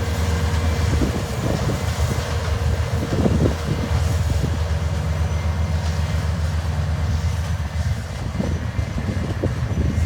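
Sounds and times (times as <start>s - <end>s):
diesel engines droning: 0.0s - 10.0s.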